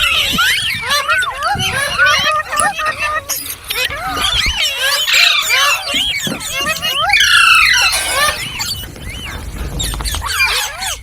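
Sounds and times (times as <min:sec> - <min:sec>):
parrots squawking and chattering: 0:00.0 - 0:11.0.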